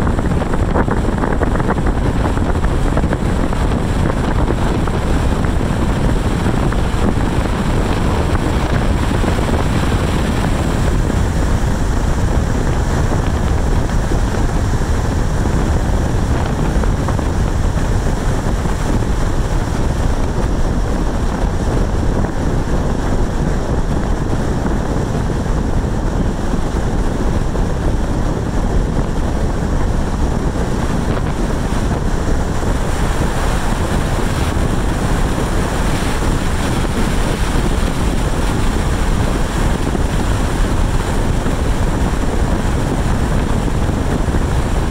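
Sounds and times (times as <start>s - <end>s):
car road and wind noise: 0.0s - 44.9s.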